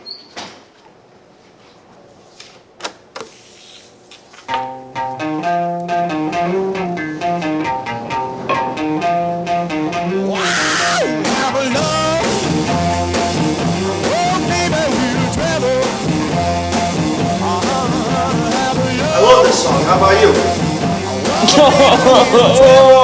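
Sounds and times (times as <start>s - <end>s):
electric guitar riff: 4.5s - 23.0s
rock band playing: 4.5s - 23.0s.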